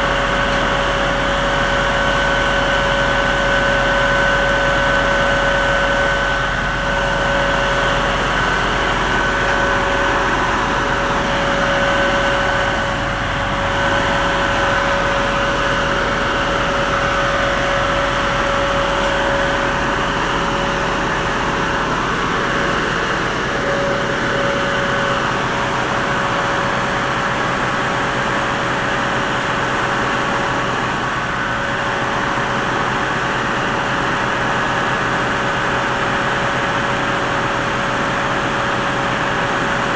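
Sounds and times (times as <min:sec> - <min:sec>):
high whine: 0:00.0 - 0:35.8
diesel engine running: 0:00.0 - 0:39.9.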